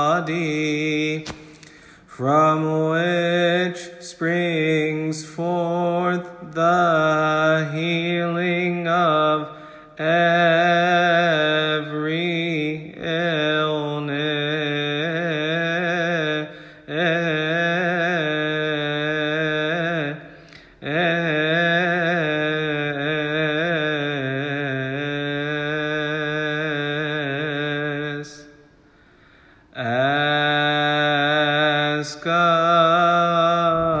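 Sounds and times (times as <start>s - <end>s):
man singing a hymn: 0.0s - 28.6s, 29.7s - 34.0s.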